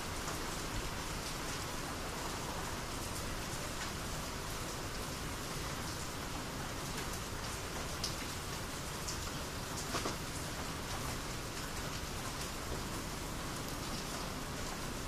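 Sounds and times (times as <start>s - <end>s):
rain hissing: 0.0s - 15.0s
raindrops ticking close by: 0.0s - 15.0s.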